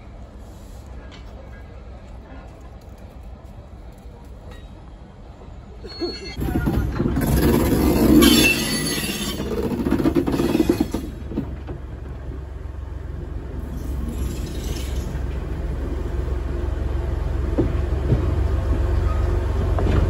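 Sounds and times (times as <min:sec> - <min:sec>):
train rattling: 0:00.0 - 0:20.0
train wheels rumbling on rails: 0:00.0 - 0:20.0.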